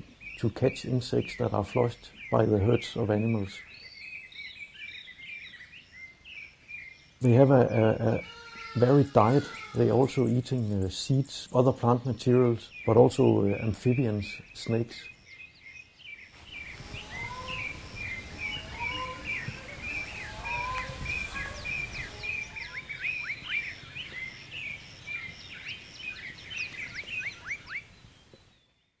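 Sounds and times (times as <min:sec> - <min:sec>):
wild birds chirping: 0:00.0 - 0:29.0.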